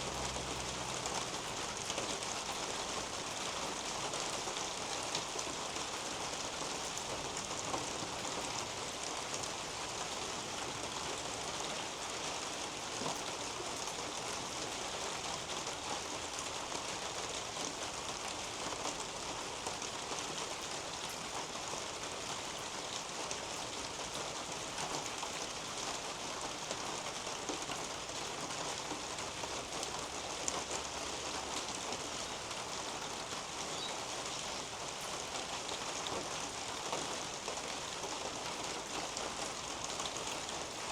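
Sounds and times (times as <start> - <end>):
rain on leaves and roof: 0.0 - 40.9.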